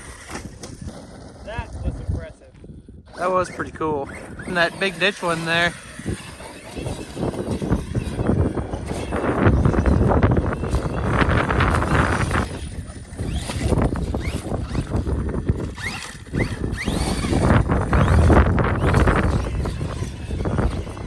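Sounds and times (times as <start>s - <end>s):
electric motor whining: 0.0s - 21.0s
tyre and ground noise: 0.0s - 21.0s
wind on microphone: 0.0s - 21.0s.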